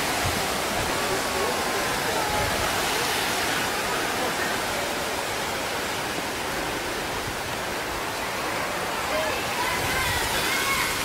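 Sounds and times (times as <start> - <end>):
floodwater rushing over ground: 0.0 - 11.0.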